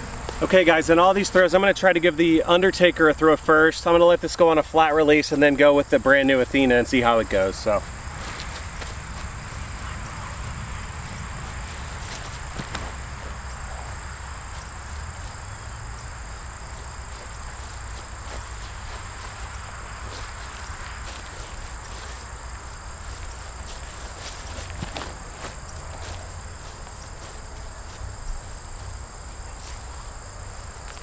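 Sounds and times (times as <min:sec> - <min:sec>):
high-pitched insect chorus: 0:00.0 - 0:31.0
low constant rumble: 0:00.0 - 0:31.0.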